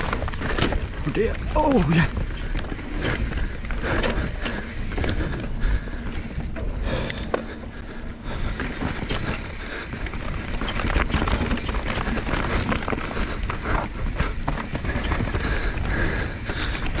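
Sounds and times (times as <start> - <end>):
tyres rolling over dirt: 0.0 - 7.5, 8.4 - 17.0
bike clattering over bumps: 0.0 - 17.0.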